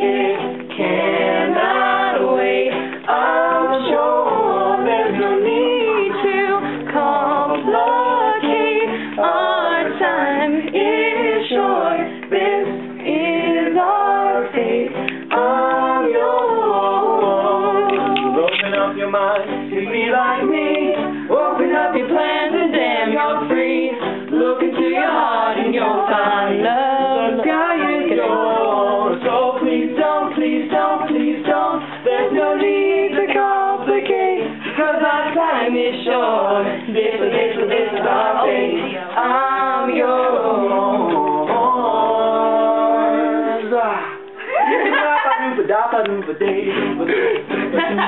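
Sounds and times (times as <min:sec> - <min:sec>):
mixed voices singing a cappella: 0:00.0 - 0:48.0.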